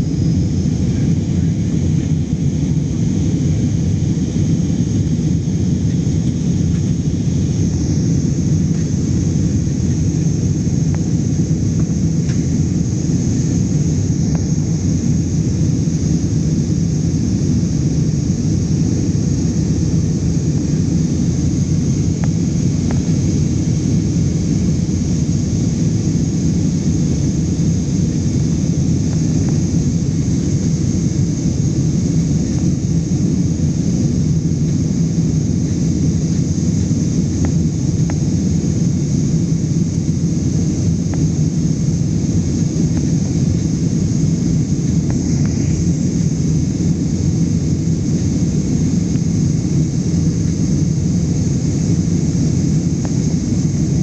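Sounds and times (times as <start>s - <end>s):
thin high whine: 0.0s - 54.0s.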